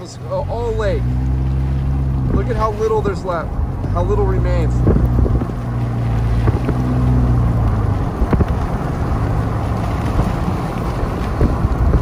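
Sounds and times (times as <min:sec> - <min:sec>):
low engine drone: 0:00.0 - 0:12.0
wind: 0:00.0 - 0:12.0.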